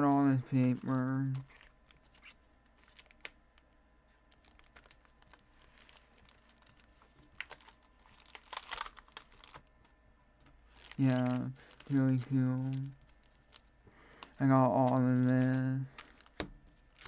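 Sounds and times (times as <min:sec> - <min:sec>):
metallic foil crinkling: 0:00.0 - 0:03.4, 0:04.1 - 0:09.9, 0:10.5 - 0:17.0.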